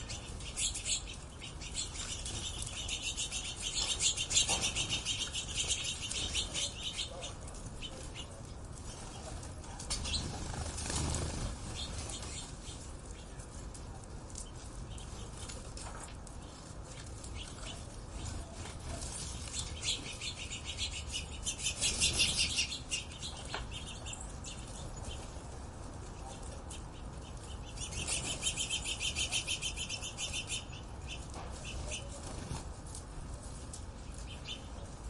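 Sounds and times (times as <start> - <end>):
birds chirping: 0.0 - 32.6, 33.5 - 35.0.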